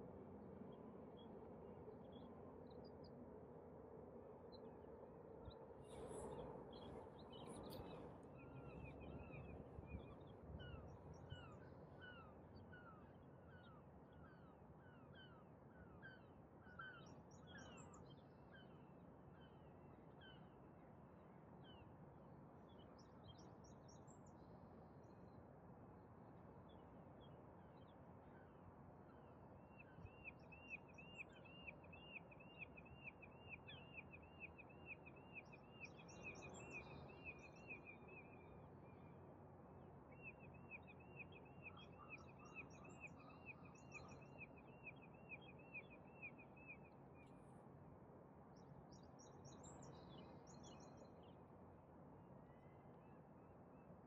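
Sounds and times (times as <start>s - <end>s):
faint birdsong: 0.0s - 22.0s, 26.6s - 47.7s, 48.5s - 51.5s.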